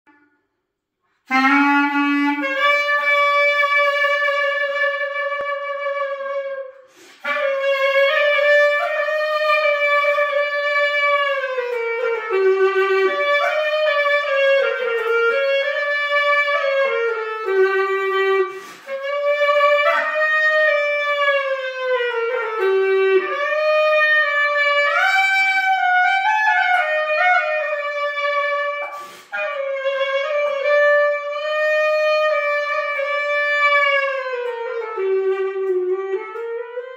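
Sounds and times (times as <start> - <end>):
solo clarinet melody: 1.2 - 36.9.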